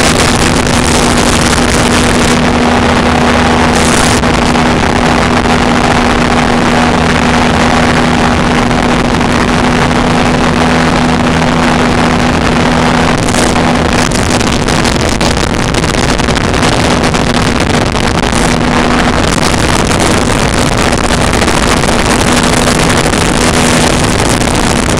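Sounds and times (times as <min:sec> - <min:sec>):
light aircraft engine running: 0:00.0 - 0:24.9
wind and airflow noise: 0:00.0 - 0:24.9.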